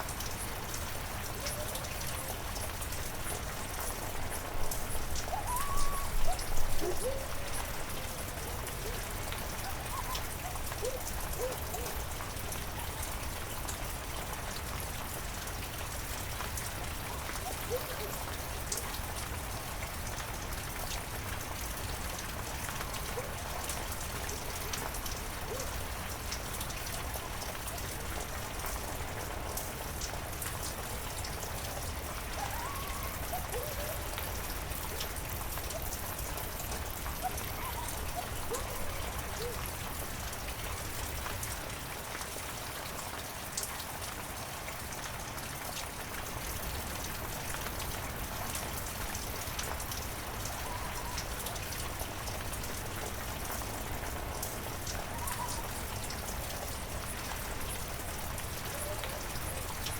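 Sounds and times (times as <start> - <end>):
heavy rain in forest: 0.0 - 59.9
raindrops ticking: 0.0 - 59.9.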